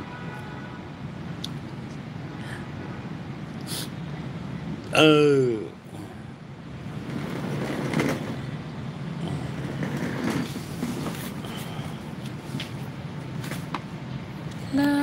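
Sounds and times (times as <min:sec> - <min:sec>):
passing road vehicles rumble: 0:00.0 - 0:15.0.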